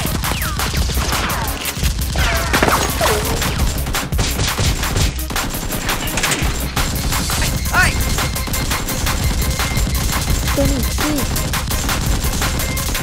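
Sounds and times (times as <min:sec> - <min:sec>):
rapid automatic gunfire: 0:00.0 - 0:13.0.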